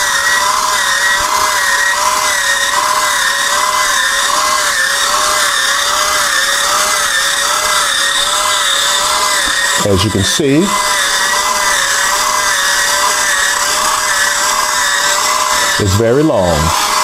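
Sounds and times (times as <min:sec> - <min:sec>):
potato peeler motor whine: 0:00.0 - 0:17.0.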